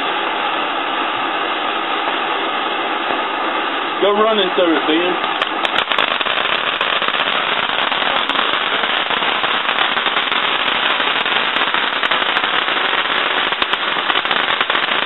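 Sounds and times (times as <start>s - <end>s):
firecrackers popping: 0.0s - 15.0s.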